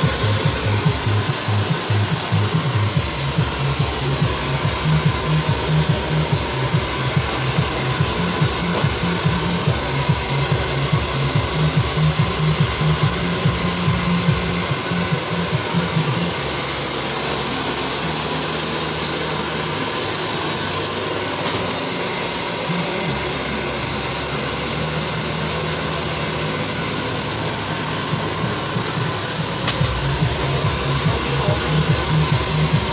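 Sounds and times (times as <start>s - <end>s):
hair dryer blowing: 0.0s - 32.9s.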